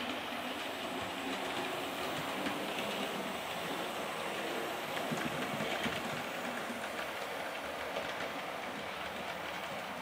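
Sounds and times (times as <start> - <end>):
model train motor whirring: 0.0 - 10.0
wheels clicking over rail joints: 0.0 - 10.0.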